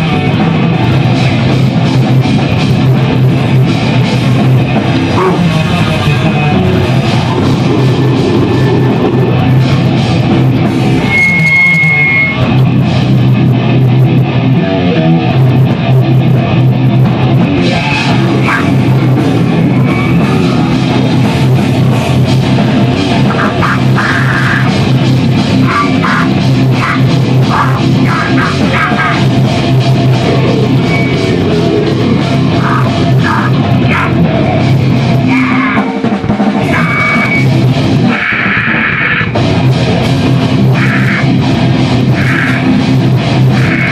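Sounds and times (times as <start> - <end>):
rock music with guitar and drums: 0.0 - 43.9.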